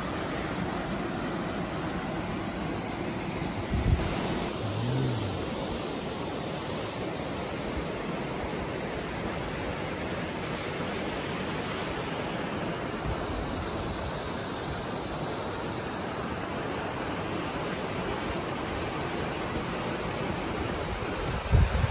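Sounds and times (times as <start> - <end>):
mountain stream rushing: 0.0 - 21.9
small waterfall: 0.0 - 21.9.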